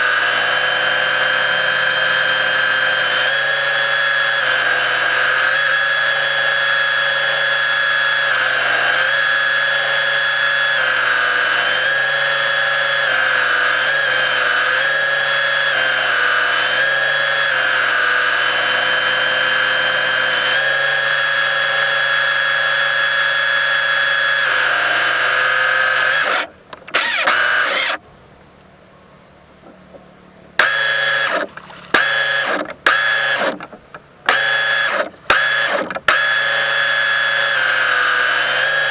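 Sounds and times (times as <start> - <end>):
model boat motor whining: 0.0 - 28.0, 30.6 - 38.9.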